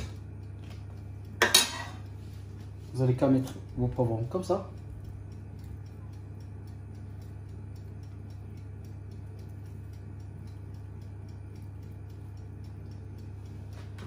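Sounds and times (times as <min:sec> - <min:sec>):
faint even ticking: 0:00.0 - 0:14.0
low electrical hum: 0:00.0 - 0:14.0.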